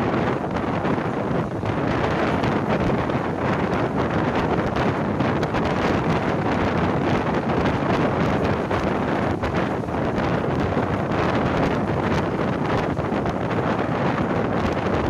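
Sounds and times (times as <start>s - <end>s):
train coach running on track: 0.0s - 15.0s
wind buffeting microphone: 0.0s - 15.0s.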